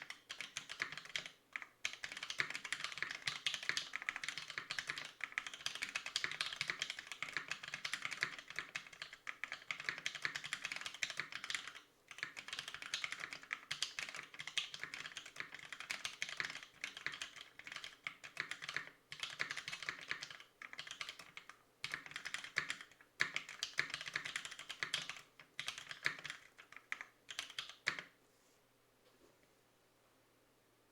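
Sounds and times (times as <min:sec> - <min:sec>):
fast typing on mechanical keyboard: 0:00.0 - 0:28.1.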